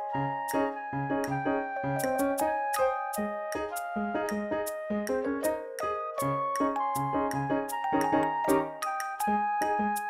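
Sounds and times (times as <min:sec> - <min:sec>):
bright pop tune on keyboard: 0:00.0 - 0:10.0.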